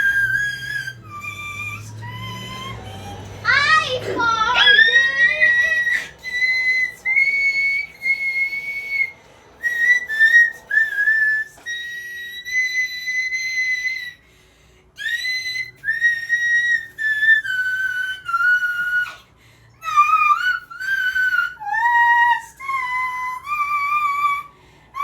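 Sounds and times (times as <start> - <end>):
high whistle-like tone: 0.0 - 14.2, 15.0 - 25.0.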